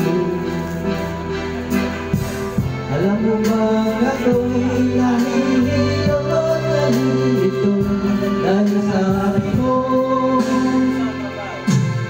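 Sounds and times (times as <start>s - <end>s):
man singing into a microphone: 0.0s - 1.4s, 2.7s - 12.0s
karaoke backing music: 0.0s - 12.0s.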